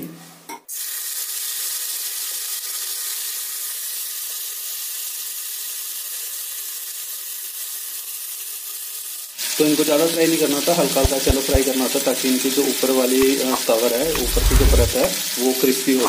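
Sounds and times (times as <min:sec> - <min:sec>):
food sizzling in hot oil: 0:00.7 - 0:16.0.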